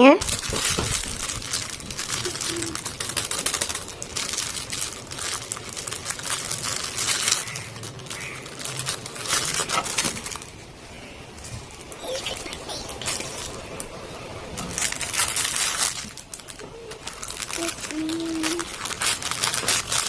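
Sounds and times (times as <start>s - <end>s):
packaging crinkling and rustling: 0.2s - 10.8s, 11.4s - 20.0s.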